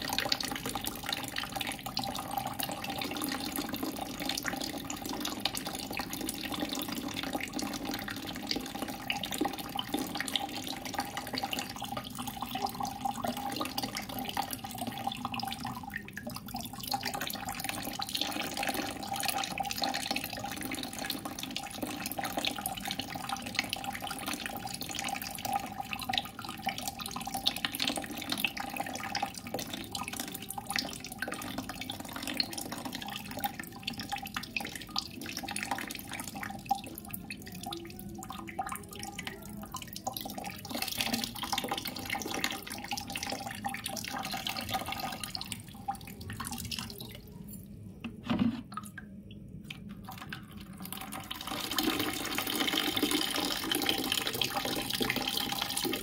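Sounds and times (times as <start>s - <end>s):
water running and trickling: 0.0s - 47.6s, 50.0s - 56.0s.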